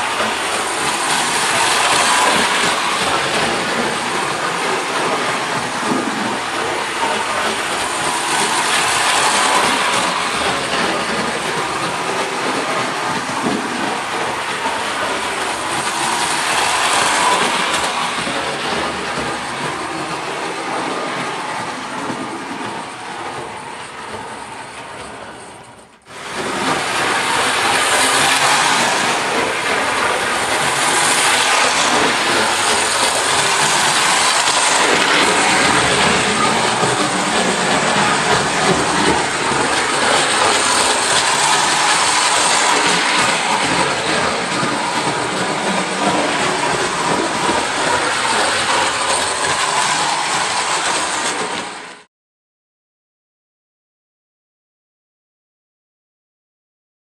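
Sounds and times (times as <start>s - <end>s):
clockwork motor whirring: 0.0s - 51.8s
toy train wheels clattering: 0.0s - 51.8s.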